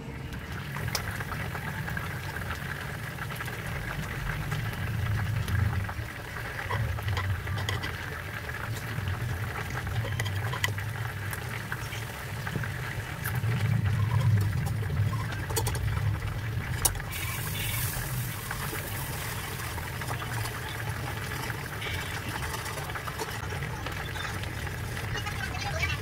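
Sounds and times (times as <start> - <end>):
butter sizzling in frying pan: 0.6 - 26.0.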